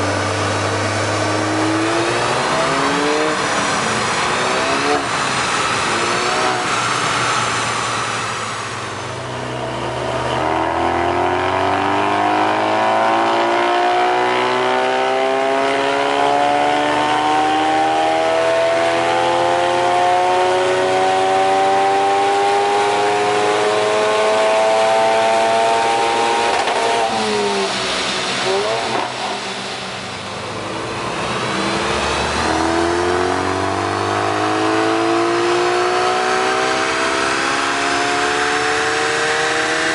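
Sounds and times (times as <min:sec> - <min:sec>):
car engine revving on a dyno: 0:00.0 - 0:39.9.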